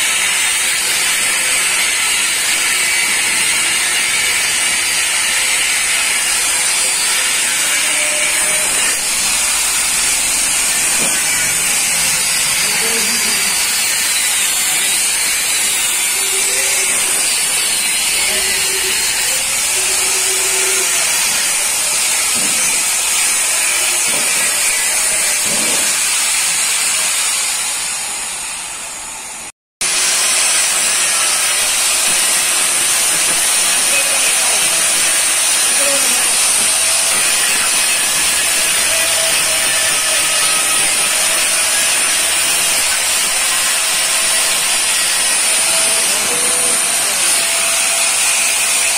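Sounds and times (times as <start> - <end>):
angle grinder grinding steel: 0.0 - 28.9, 29.8 - 48.9.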